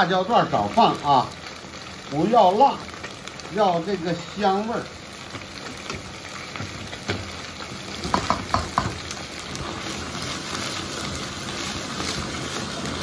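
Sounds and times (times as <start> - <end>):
fish sizzling in oil in a wok: 0.0 - 13.0.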